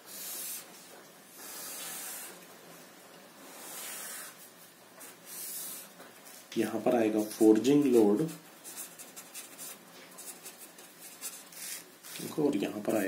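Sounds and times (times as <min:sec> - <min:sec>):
marker hissing on paper: 0:00.0 - 0:02.4, 0:03.4 - 0:12.5.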